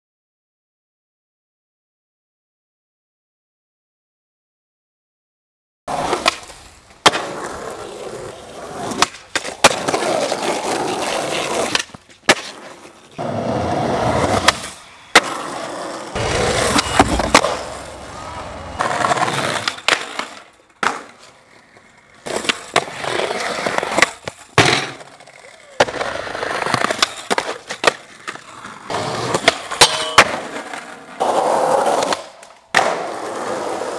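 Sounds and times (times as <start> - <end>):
skateboard popping and landing: 5.9 - 33.9
skateboard wheels rolling on concrete: 5.9 - 33.9.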